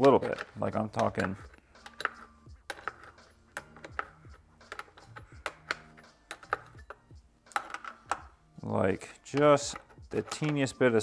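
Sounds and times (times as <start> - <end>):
wrench clicking on metal nuts: 0.0 - 8.3, 9.3 - 10.7.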